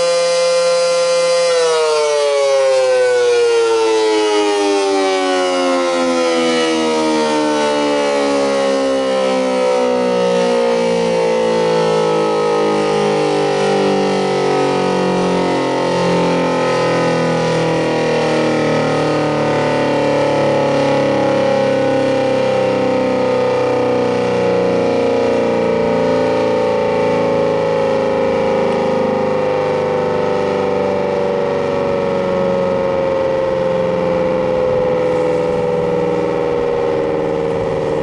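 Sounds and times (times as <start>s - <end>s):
dual-tone siren winding down: 0.0s - 38.0s.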